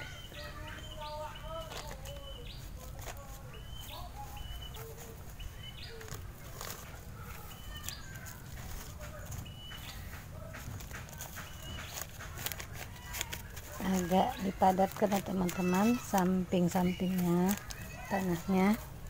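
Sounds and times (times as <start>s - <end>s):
bird chirping: 0.0s - 18.8s
soil scraping: 0.1s - 19.0s
plastic bag crinkling: 1.4s - 19.0s.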